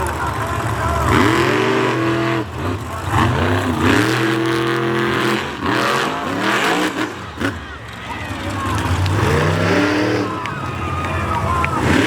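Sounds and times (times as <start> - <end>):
monster truck engines revving: 0.0 - 12.0.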